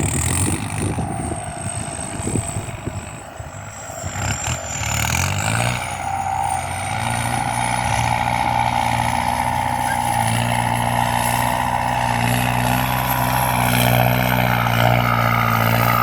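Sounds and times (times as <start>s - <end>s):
high turbo whistle: 0.0s - 16.0s
tractor diesel engine under load: 0.0s - 16.0s.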